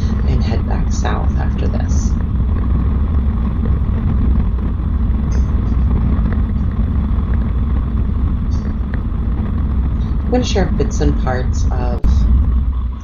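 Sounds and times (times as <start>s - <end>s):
motorcycle running: 0.0s - 13.0s
wind rumble on microphone: 0.0s - 13.0s.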